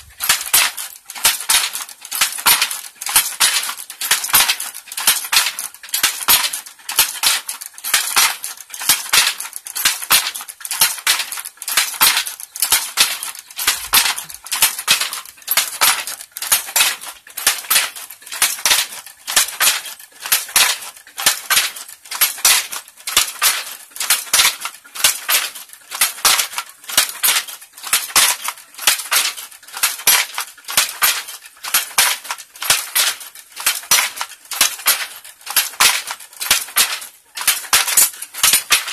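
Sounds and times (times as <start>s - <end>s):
wooden loom clattering: 0.0s - 38.9s.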